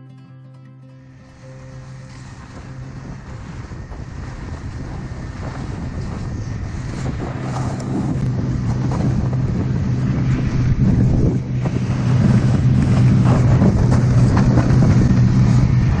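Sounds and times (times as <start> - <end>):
snowmobile engine running: 1.3 - 16.0
wind buffeting microphone: 1.3 - 16.0.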